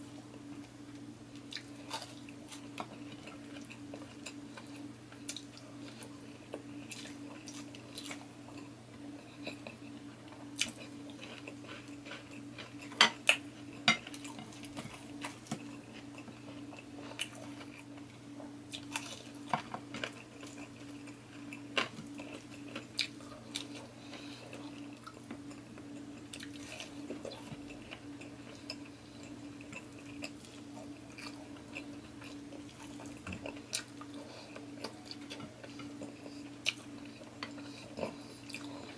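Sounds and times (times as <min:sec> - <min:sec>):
steady low hum: 0:00.0 - 0:38.9
person chewing: 0:01.3 - 0:18.1, 0:18.7 - 0:38.9.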